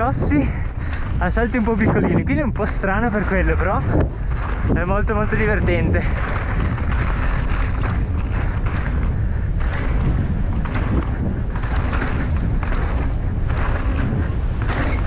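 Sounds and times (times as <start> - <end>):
bike rattling: 0.0 - 15.0
tyres crunching over stones: 0.0 - 15.0
wind rumble on microphone: 0.0 - 15.0.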